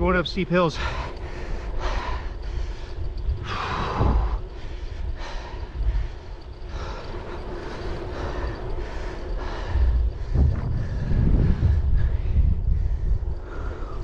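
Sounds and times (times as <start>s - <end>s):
bicycle rolling noise: 0.0s - 14.0s
wind buffeting microphone: 0.0s - 14.0s.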